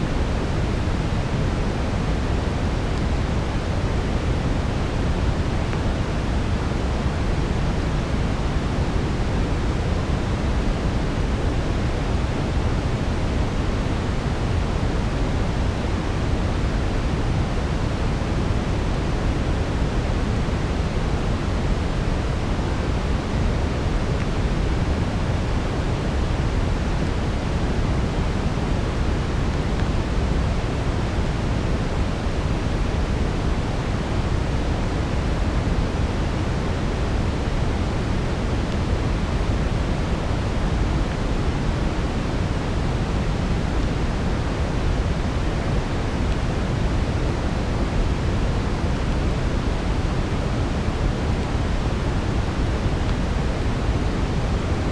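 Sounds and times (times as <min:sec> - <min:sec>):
brown noise rushing hiss: 0:00.0 - 0:54.9.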